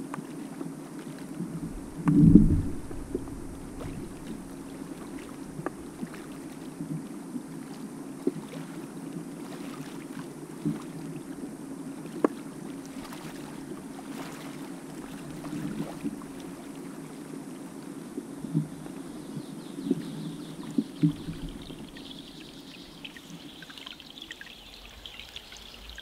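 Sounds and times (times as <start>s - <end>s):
muffled underwater hum: 0.2s - 26.0s.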